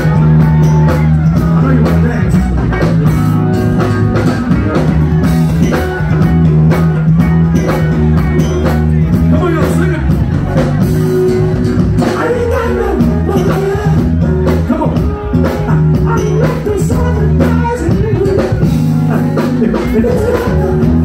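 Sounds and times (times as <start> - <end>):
bass line: 0.0 - 21.0
drum beat: 0.0 - 21.0
electric guitar: 0.0 - 21.0.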